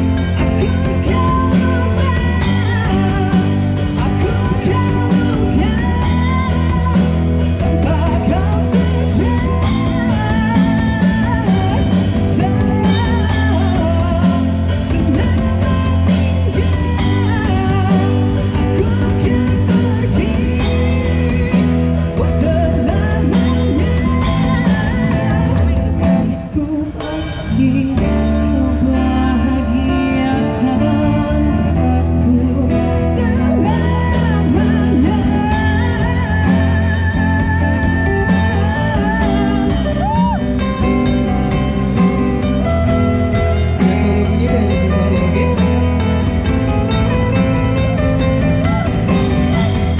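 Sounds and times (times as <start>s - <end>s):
bass line: 0.0s - 49.9s
person singing: 0.0s - 49.9s.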